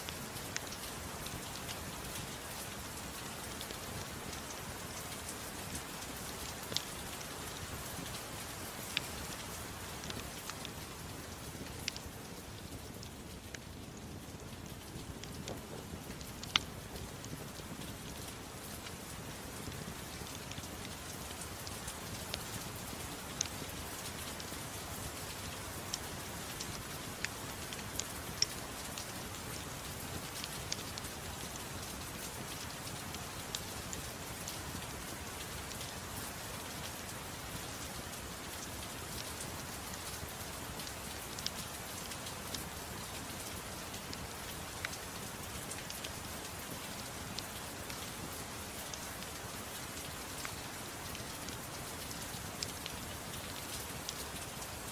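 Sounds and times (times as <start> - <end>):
wood fire popping and crackling: 0.0 - 36.3, 37.3 - 54.9
soft rain hiss: 0.0 - 54.9.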